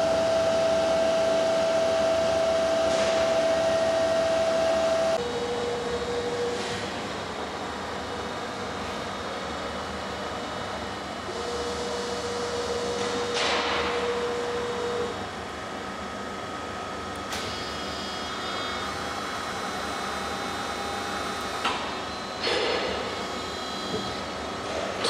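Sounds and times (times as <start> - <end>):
lathe mechanical hum with whine: 0.0 - 25.0.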